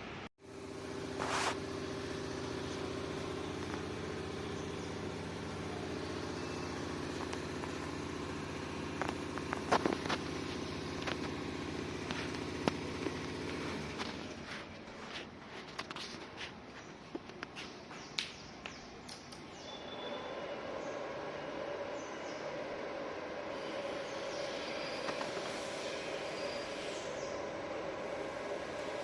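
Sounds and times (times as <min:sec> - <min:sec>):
electric motor humming: 0:00.4 - 0:14.8, 0:19.9 - 0:29.0.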